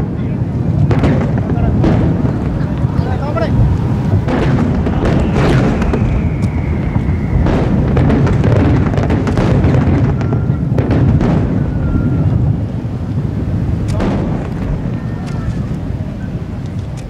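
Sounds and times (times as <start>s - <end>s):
fireworks rumbling boom: 0.0s - 17.0s
fireworks sharp bangs: 0.0s - 17.0s.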